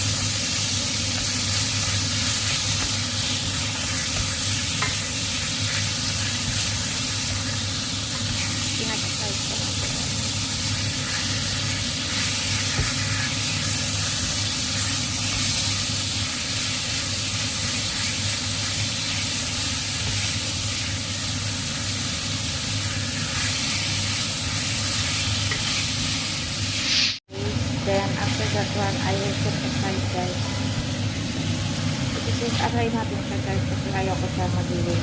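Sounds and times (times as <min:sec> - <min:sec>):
chicken sizzling in oil: 0:00.0 - 0:34.0.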